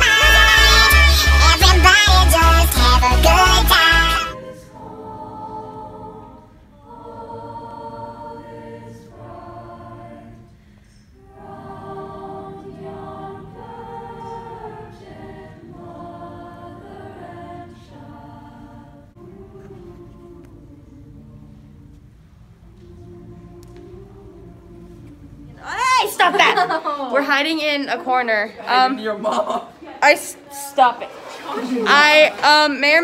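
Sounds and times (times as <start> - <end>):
choir singing in parts: 0.0 - 26.8.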